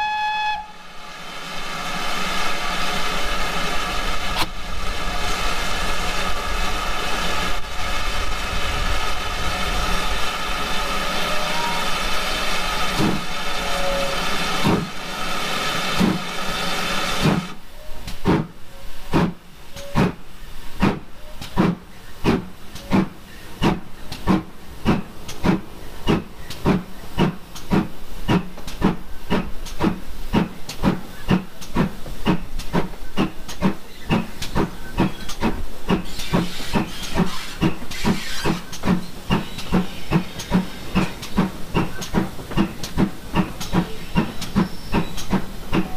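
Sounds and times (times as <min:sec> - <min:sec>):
steam locomotive exhaust chuffs: 0:00.0 - 0:45.9
steam hissing: 0:00.8 - 0:45.9.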